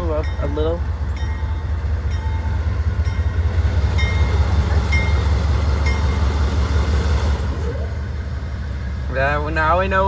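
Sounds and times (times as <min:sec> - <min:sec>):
train rumbling along track: 0:00.0 - 0:10.0.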